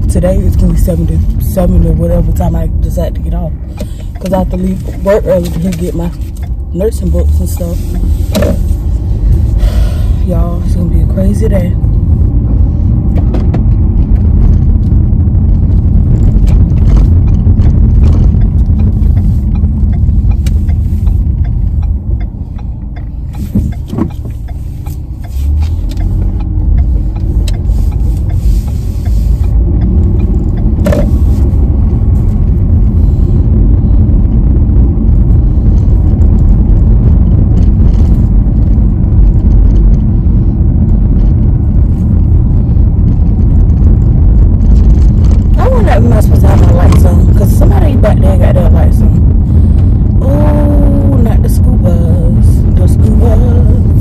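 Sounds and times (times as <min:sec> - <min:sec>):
engine and tyre rumble: 0:00.0 - 0:54.0.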